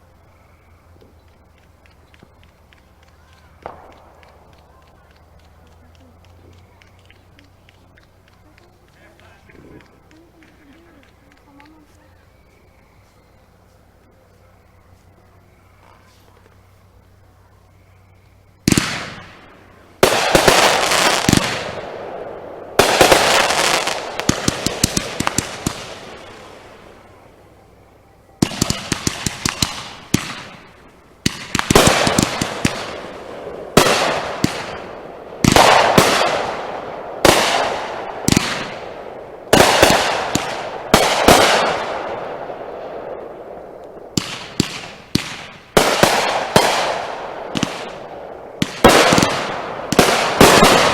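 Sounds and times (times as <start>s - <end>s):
firework crackle: 0.0s - 50.9s
fireworks bursting: 0.8s - 50.9s
sharp firework pops: 0.9s - 12.0s, 18.6s - 27.1s, 28.4s - 50.9s.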